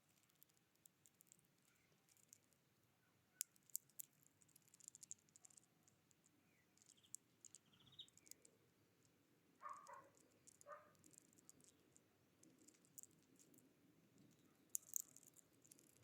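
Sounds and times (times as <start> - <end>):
small bird chirping: 0.0 - 8.7, 9.6 - 16.0.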